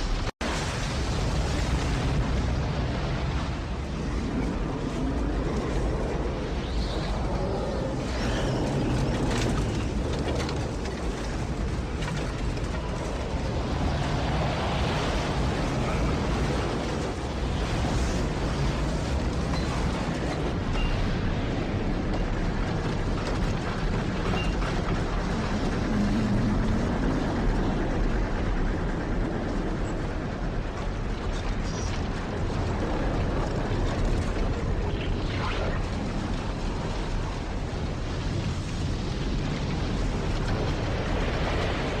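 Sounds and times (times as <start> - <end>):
rushing wind with low rumble: 0.0 - 42.0.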